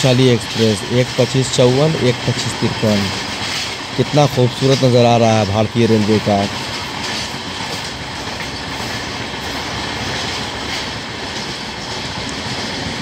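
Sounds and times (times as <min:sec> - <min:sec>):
passing train: 0:00.0 - 0:13.0
train wheels on rails: 0:00.0 - 0:13.0.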